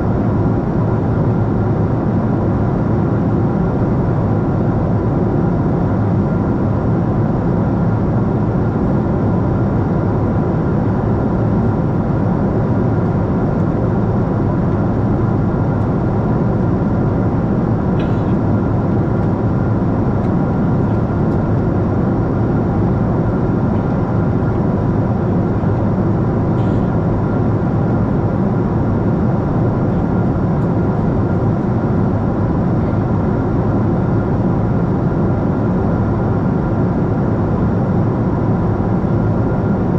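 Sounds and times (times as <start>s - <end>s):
airplane engine rumble in flight: 0.0s - 39.9s.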